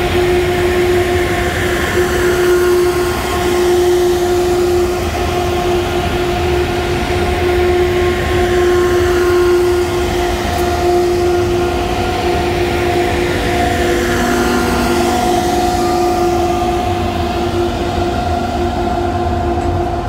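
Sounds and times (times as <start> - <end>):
electric locomotive hum: 0.0 - 20.0
train low rumble: 0.0 - 20.0.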